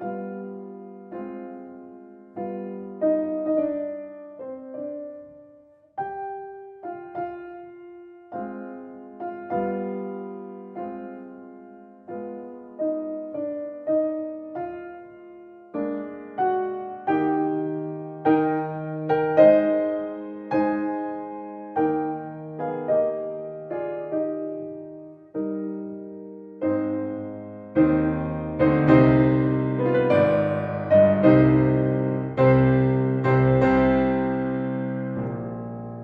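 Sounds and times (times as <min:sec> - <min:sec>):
slow piano chords: 0:00.0 - 0:36.0.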